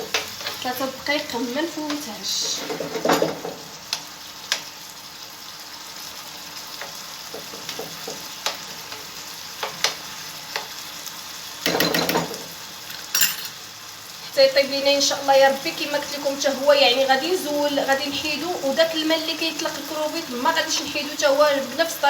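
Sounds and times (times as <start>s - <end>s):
seafood sizzling in oil: 0.0s - 22.0s.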